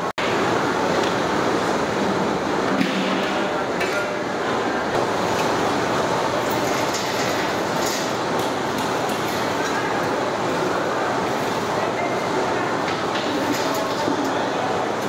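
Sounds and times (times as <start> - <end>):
busy wood-fire cooking area: 0.0 - 15.0.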